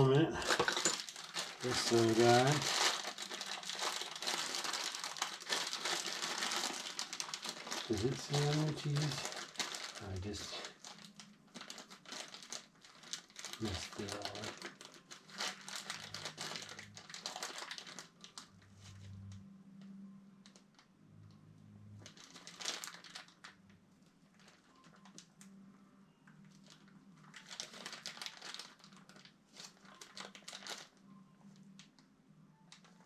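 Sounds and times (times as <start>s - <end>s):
crinkling and rustling material: 0.0s - 33.0s.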